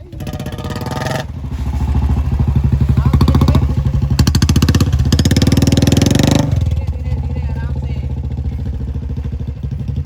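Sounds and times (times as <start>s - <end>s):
motorcycle engine thumping: 0.0s - 10.0s.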